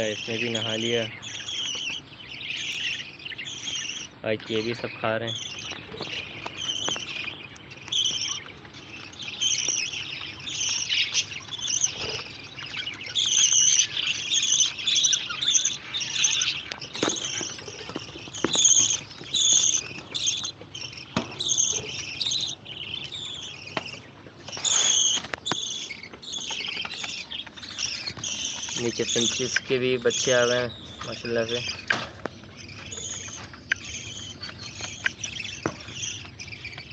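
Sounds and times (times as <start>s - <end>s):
budgerigars chattering: 0.0s - 36.9s.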